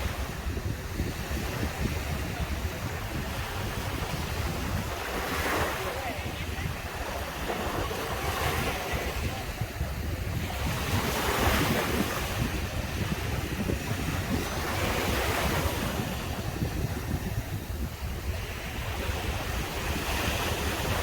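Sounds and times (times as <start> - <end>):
ocean waves breaking on beach: 0.0 - 21.0
wind rumbling on microphone: 0.0 - 21.0.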